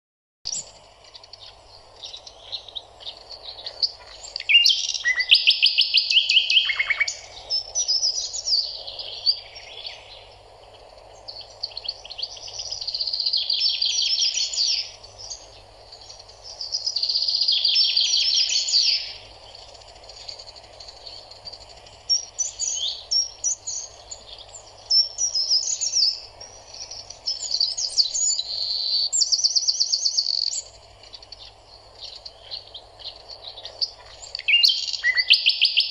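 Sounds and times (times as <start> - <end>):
faint steady background noise: 0.5 - 35.9
songbirds chirping and trilling: 0.5 - 35.9.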